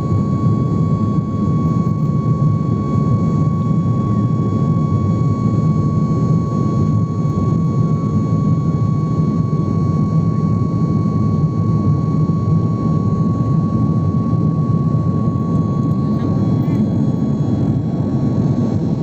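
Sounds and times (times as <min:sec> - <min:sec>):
constant high whine: 0:00.0 - 0:19.0
engine and airflow rumble: 0:00.0 - 0:19.0.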